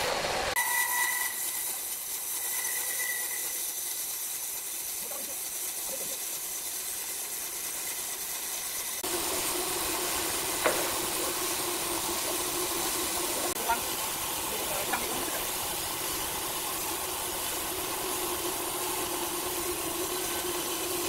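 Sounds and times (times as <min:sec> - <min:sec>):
band saw cutting log: 0:00.0 - 0:21.0.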